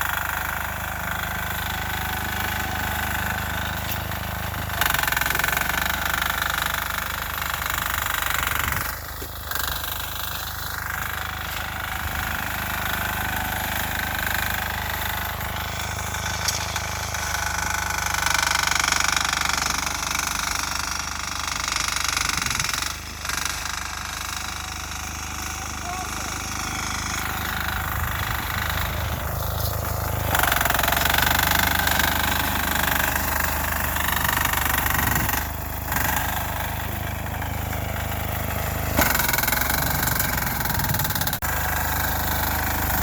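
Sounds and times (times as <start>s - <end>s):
diesel engine knocking clatter: 0.0s - 43.0s.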